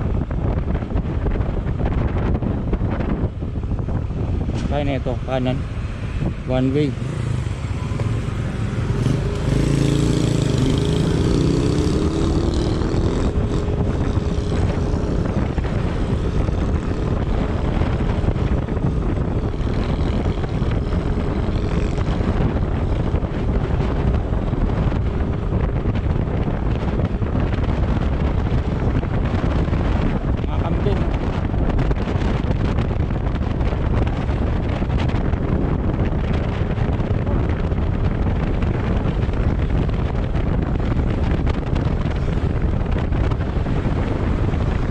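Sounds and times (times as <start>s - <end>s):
road noise: 0.0s - 44.9s
vehicle engine: 0.0s - 44.9s
wind on microphone: 0.0s - 44.9s.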